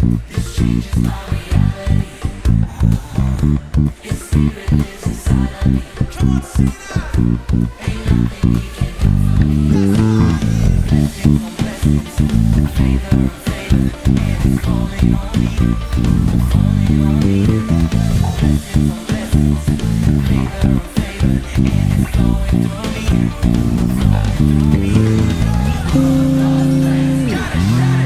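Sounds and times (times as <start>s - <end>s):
bass guitar playing busy line: 0.0s - 28.0s
full band with guitar: 0.0s - 28.0s.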